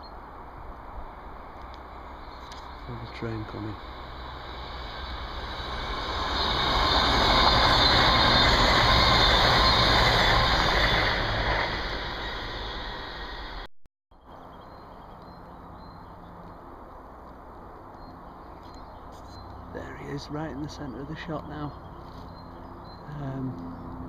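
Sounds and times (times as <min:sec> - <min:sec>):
train passing with rushing rumble: 0:00.0 - 0:13.7, 0:14.4 - 0:24.0.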